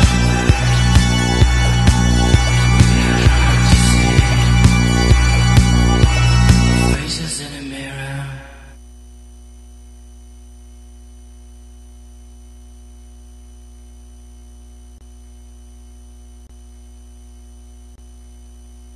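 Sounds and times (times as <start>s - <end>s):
electrical hum and buzz: 0.0s - 18.9s.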